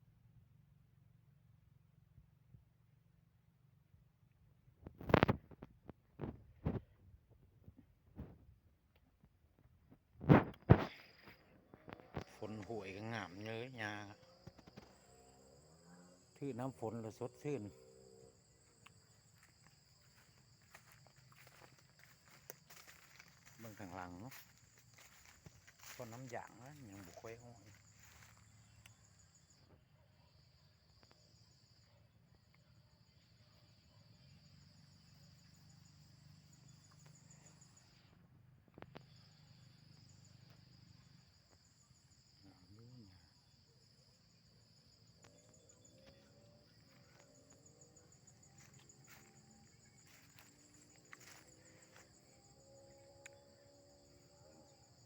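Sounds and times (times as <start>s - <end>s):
insects chirring: 10.2s - 55.0s.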